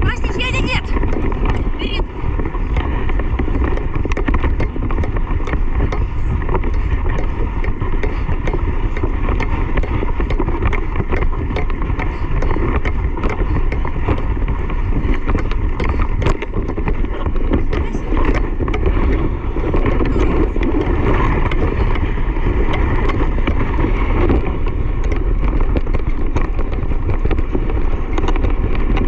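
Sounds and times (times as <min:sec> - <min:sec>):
low rumble of motion: 0:00.0 - 0:29.0
wind buffeting microphone: 0:00.0 - 0:29.0
small clicks and knocks: 0:02.4 - 0:23.6, 0:24.2 - 0:29.0.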